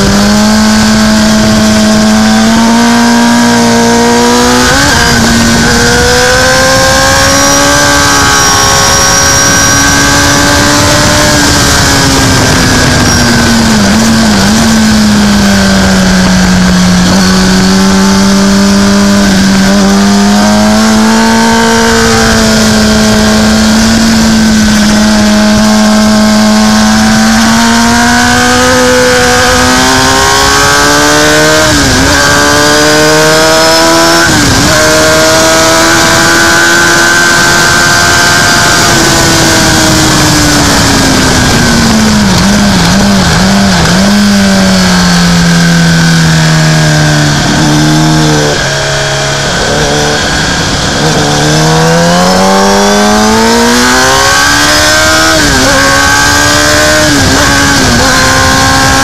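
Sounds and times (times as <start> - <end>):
motorcycle engine at high revs: 0.0 - 59.0
wind rushing: 0.0 - 59.0.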